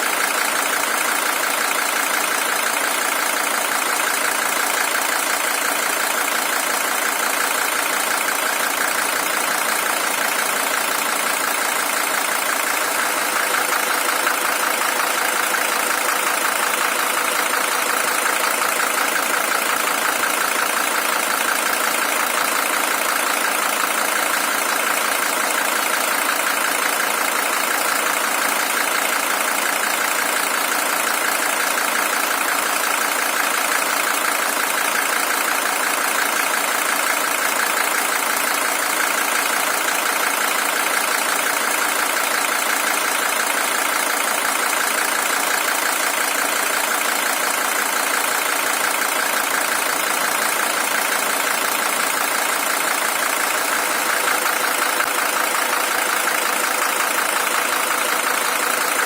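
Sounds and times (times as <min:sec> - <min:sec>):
diesel engine idling with clatter: 0:00.0 - 0:59.0.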